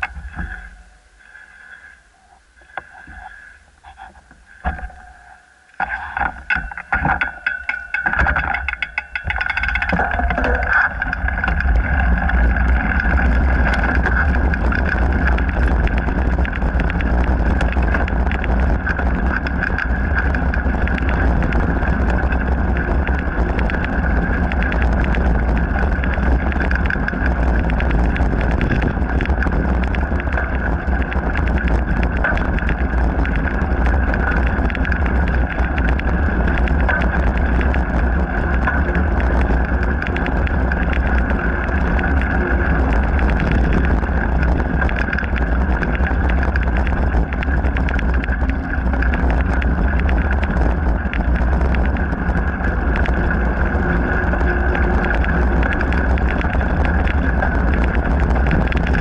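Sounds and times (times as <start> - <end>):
bike rattling: 0.0 - 59.0
bike tyres rolling on gravel: 0.0 - 59.0
wind buffeting microphone: 2.1 - 59.0
small clicks and knocks: 2.6 - 59.0.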